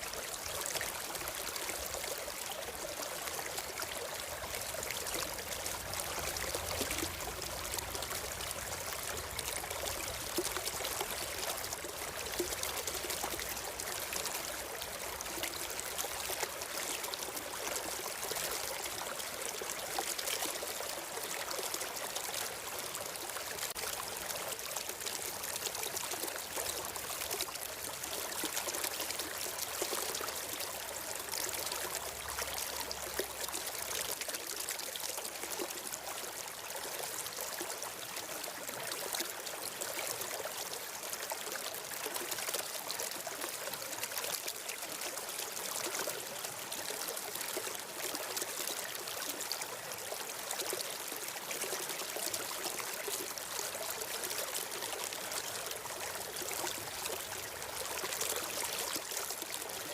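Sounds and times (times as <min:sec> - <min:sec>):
stream of water flowing: 0:00.0 - 0:59.9.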